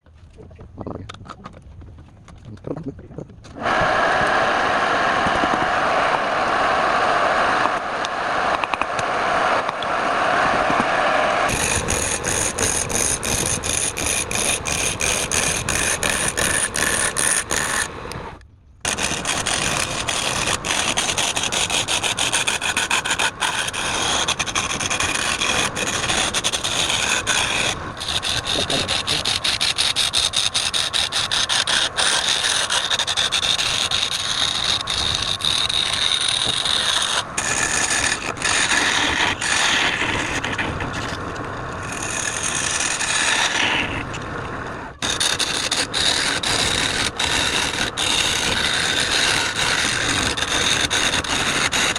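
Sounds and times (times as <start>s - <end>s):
tool scraping spinning wood: 3.2s - 51.9s.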